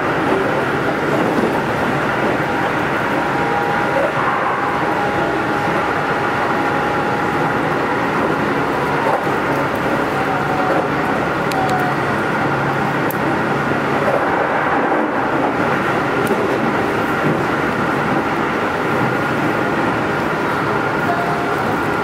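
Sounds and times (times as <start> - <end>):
electric train whine: 0.0 - 22.0
train wheels rumbling on rails: 0.0 - 22.0.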